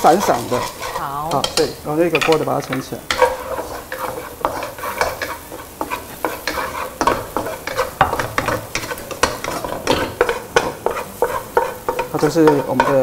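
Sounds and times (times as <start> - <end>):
oil sizzling: 0.0 - 13.0
wooden spatula scraping a wok: 0.0 - 13.0.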